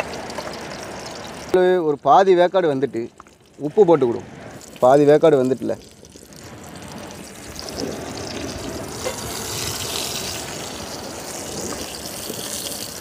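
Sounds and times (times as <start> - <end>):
prawn sizzling in oil: 0.0 - 13.0.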